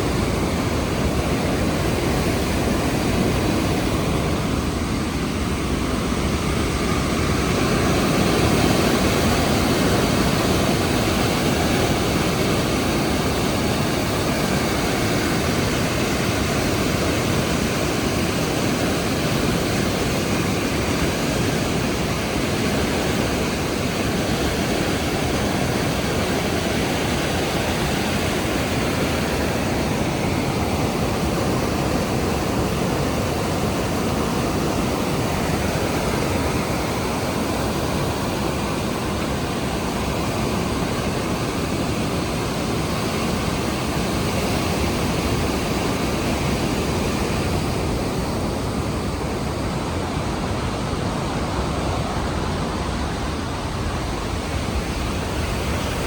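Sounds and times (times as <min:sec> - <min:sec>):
waterfall pouring loudly: 0:00.0 - 0:56.0.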